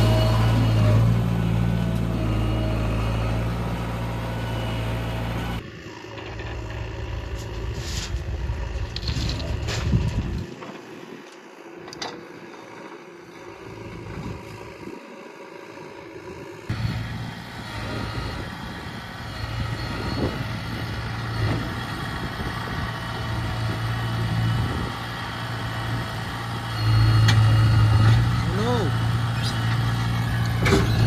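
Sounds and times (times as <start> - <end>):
heavy diesel engine running: 0.0 - 11.7, 12.8 - 31.0.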